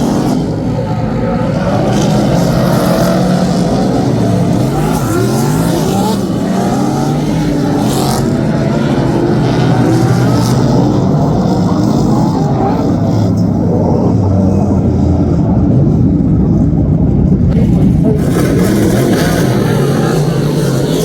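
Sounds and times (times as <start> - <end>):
race car engines racing: 0.0 - 21.0.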